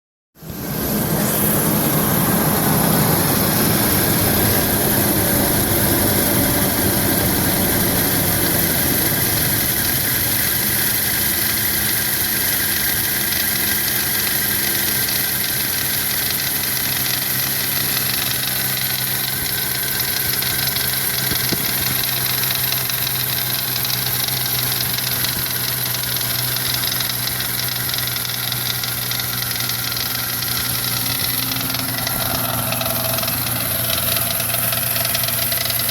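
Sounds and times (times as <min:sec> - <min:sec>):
car engine idling with knock: 0:01.6 - 0:35.9.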